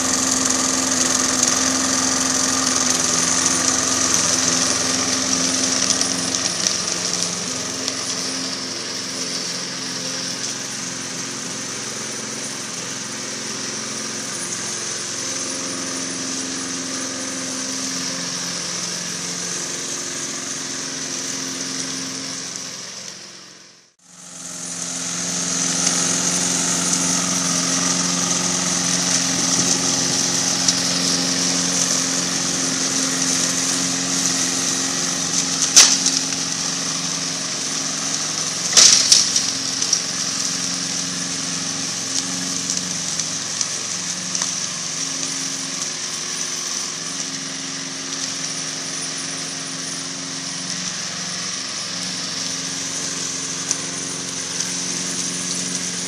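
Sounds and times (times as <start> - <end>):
lawn mower running: 0.0 - 56.0.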